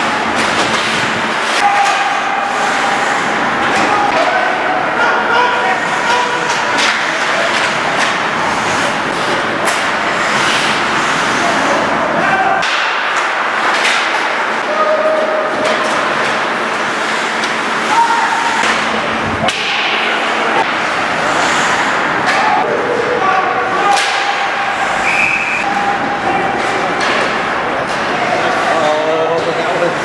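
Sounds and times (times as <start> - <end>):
hockey sticks and puck clacking: 0.0 - 30.0
spectators' voices: 0.0 - 30.0.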